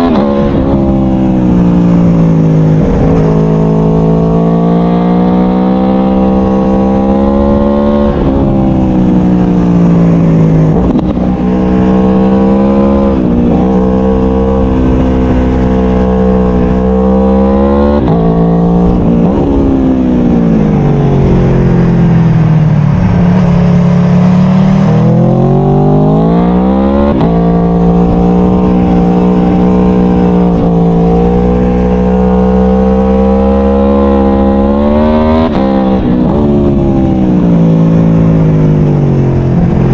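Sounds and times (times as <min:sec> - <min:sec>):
wind rush: 0:00.0 - 0:32.3, 0:34.0 - 0:39.9
motorcycle engine revving: 0:00.0 - 0:39.9.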